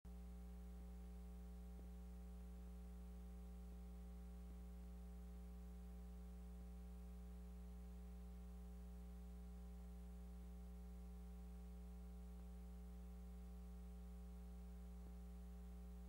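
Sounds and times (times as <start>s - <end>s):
faint electrical hum with hiss: 0.1s - 16.0s.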